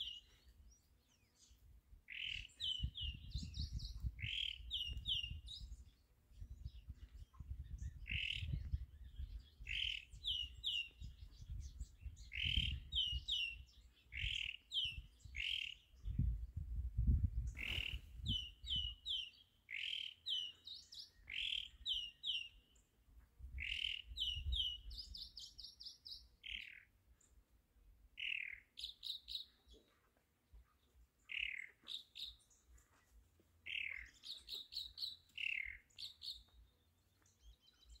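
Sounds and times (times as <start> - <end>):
mockingbird singing: 0.0 - 5.9, 6.6 - 16.0, 17.5 - 22.6, 23.6 - 26.9, 28.2 - 29.9, 31.2 - 32.6, 33.6 - 38.0.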